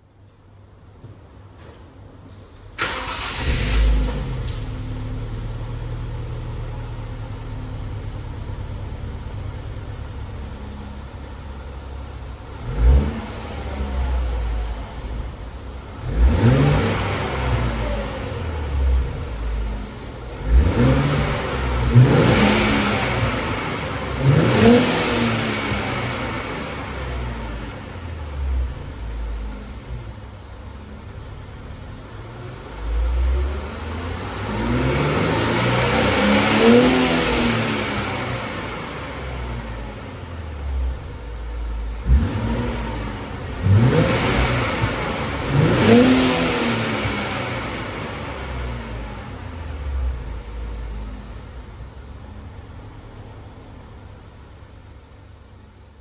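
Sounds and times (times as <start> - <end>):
car engine starting: 2.6 - 56.0
engine revving: 2.8 - 52.6
car engine idling: 2.8 - 56.0.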